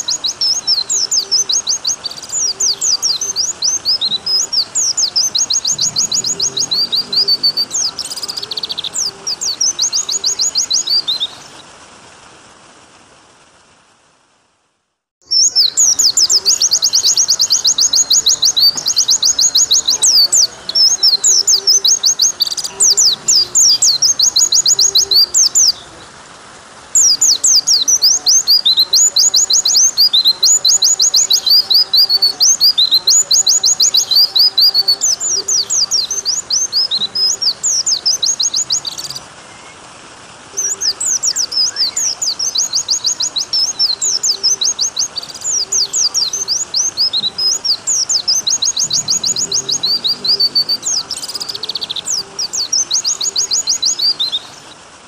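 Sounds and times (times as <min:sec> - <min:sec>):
bird twittering trills: 0:00.0 - 0:11.6, 0:15.2 - 0:26.1, 0:27.0 - 0:39.8, 0:40.5 - 0:54.9
running water rushing: 0:00.0 - 0:55.0.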